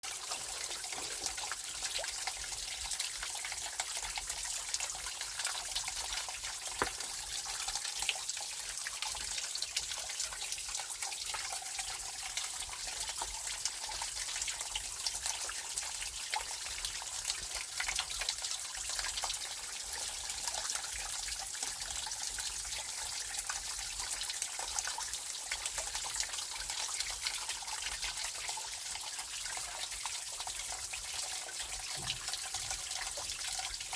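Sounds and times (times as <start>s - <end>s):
stream water trickling: 0.0s - 33.9s.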